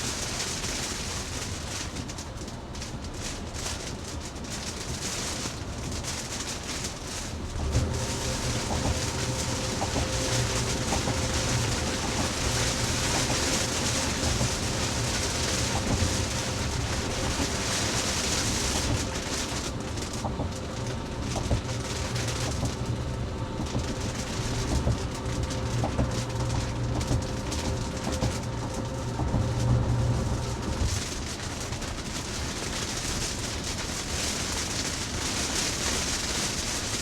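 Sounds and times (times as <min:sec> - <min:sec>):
heavy rain on car roof: 0:00.0 - 0:37.0
tyres rumbling on wet road: 0:00.0 - 0:37.0.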